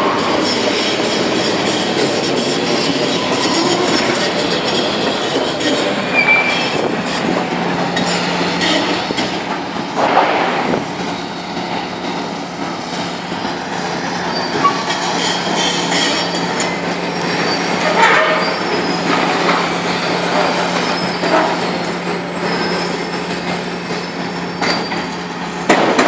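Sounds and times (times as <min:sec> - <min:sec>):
excavator diesel engine humming: 0:00.0 - 0:26.0
excavator scraping and clanking metal: 0:00.0 - 0:26.0.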